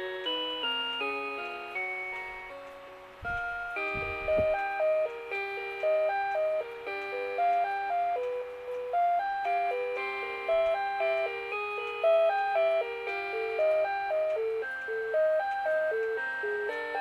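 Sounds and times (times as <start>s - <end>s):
melody alarm clock playing tune: 0.0s - 17.0s.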